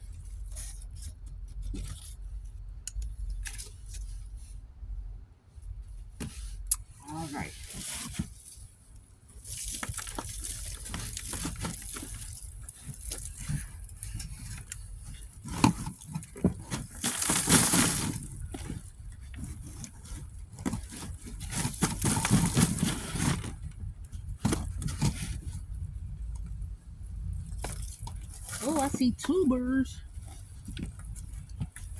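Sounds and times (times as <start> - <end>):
digging scraping and crunching soil: 6.3 - 31.9.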